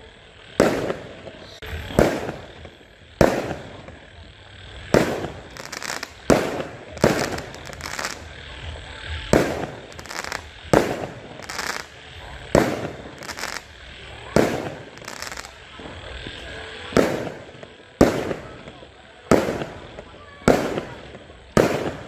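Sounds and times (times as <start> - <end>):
fireworks banging and crackling: 0.0 - 22.0.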